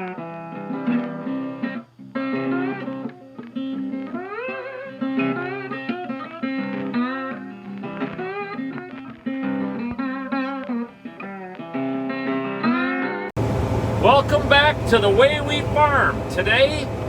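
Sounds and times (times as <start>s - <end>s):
guitar music with bending notes: 0.0s - 17.0s.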